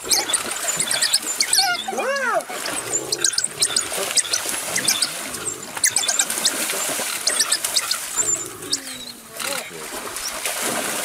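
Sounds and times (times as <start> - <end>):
wild dogs twittering: 0.0 - 10.4
animals splashing in shallow water: 0.0 - 11.0.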